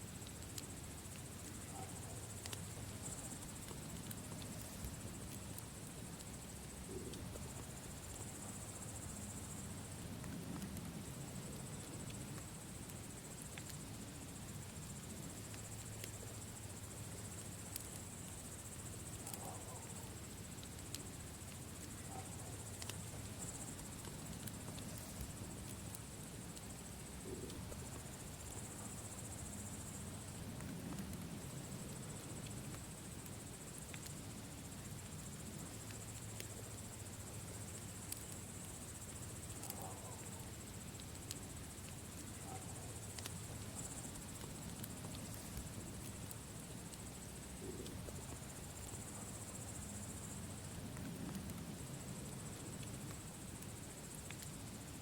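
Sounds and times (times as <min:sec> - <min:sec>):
campfire crackling and popping: 0:00.0 - 0:55.0
insects chirring: 0:00.0 - 0:55.0.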